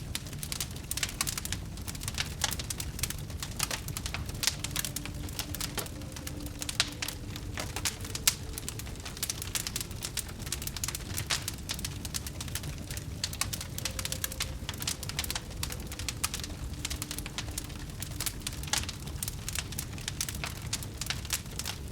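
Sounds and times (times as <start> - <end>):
fire crackling and popping: 0.0 - 21.9
low rumble: 1.0 - 21.9.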